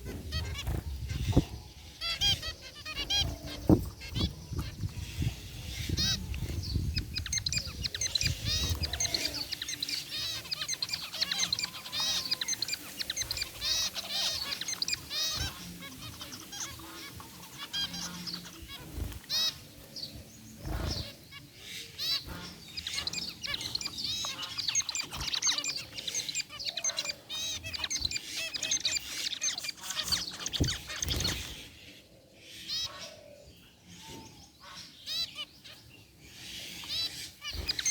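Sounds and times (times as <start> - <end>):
finches chirping: 0.0 - 37.9.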